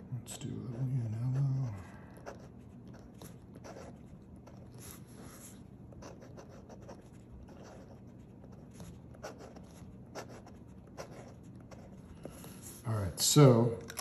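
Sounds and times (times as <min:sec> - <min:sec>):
fountain pen scratching on paper: 0:00.2 - 0:12.8.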